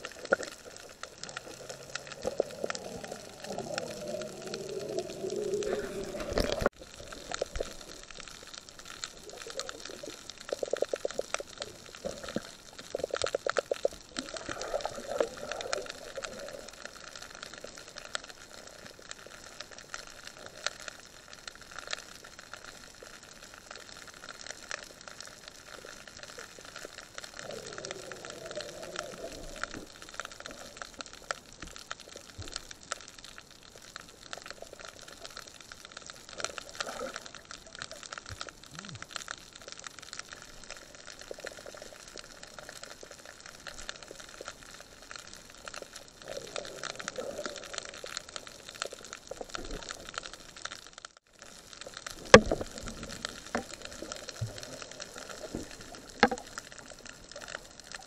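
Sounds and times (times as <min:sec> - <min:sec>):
bubbling gurgle: 0:00.0 - 0:21.4, 0:22.4 - 0:58.0
underwater crackle of small clicks: 0:00.0 - 0:58.0.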